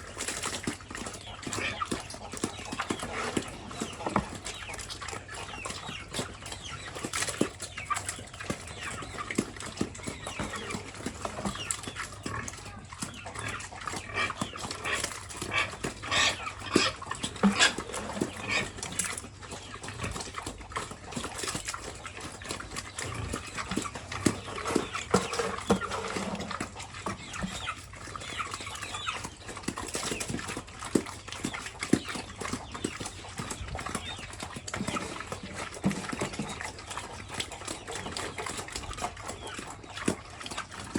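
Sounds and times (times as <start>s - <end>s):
pigs chewing and smacking: 0.0s - 40.9s
pigs grunting and squealing: 0.0s - 40.9s.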